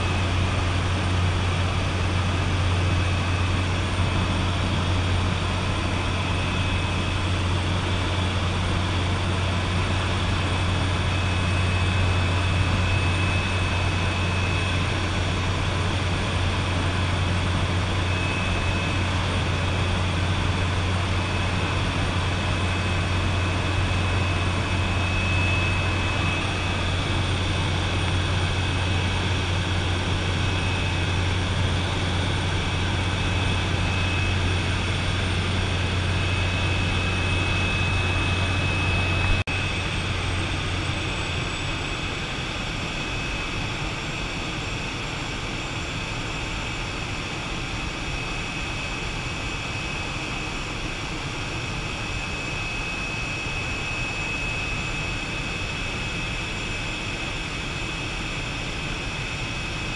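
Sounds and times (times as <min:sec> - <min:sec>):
propeller plane cabin drone: 0:00.0 - 0:59.9.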